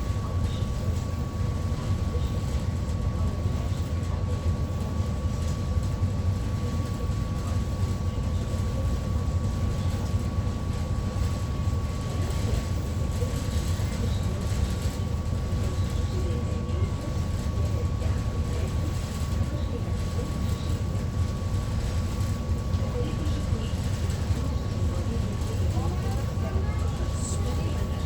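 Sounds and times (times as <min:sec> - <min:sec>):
ferry engines rumbling: 0:00.0 - 0:28.0.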